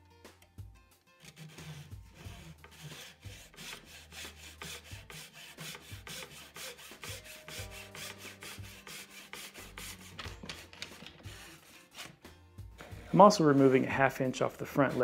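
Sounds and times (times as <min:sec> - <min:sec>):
pull saw cutting wood: 0:01.2 - 0:13.3.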